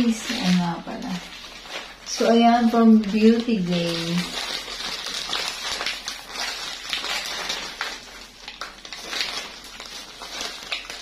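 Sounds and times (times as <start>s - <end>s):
plastic mailer crinkling: 0.0s - 11.0s.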